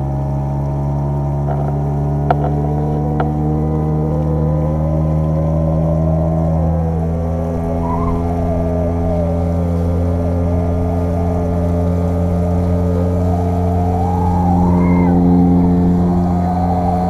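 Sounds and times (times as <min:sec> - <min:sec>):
high wavering whine: 0:00.0 - 0:17.0
outboard motor running: 0:00.0 - 0:17.0.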